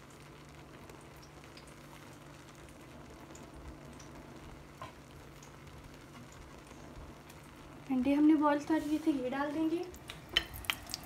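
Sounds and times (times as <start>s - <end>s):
faint steady hum: 0.0s - 11.0s
soft crackles of cooking rice: 0.0s - 11.0s.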